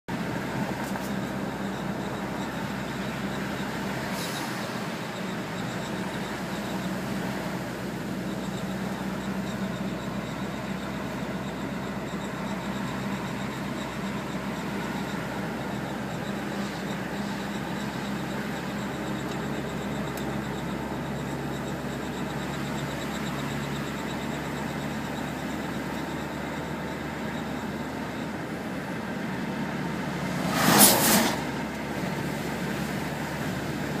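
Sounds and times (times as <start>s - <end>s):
road noise with low drone: 0.0s - 34.0s.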